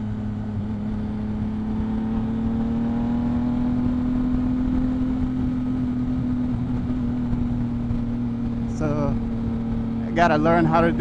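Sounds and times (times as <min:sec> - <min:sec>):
motorcycle engine under throttle: 0:00.0 - 0:11.0
wind rumble on microphone: 0:00.0 - 0:11.0.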